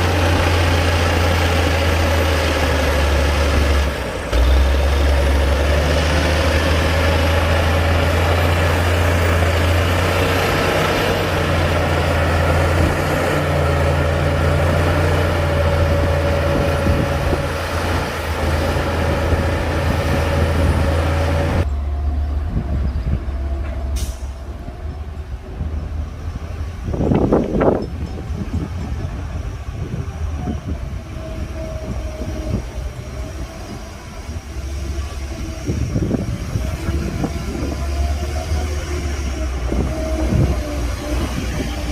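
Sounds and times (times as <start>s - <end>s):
heavy diesel engine drone: 0.0s - 41.9s.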